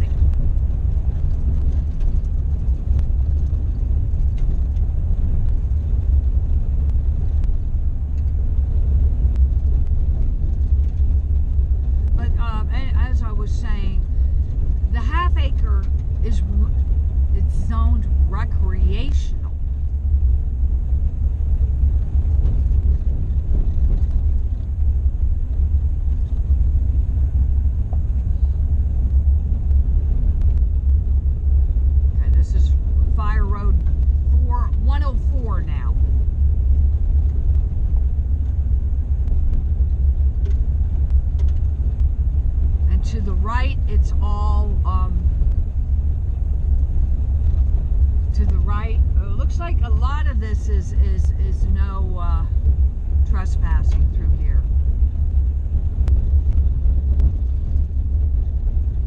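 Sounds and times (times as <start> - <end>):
van engine and tyres rumbling: 0.0 - 59.0.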